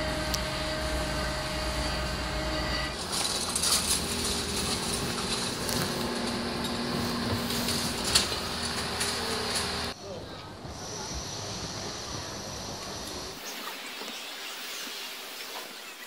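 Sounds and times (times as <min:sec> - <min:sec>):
vehicle ride rumble: 0:00.0 - 0:13.4.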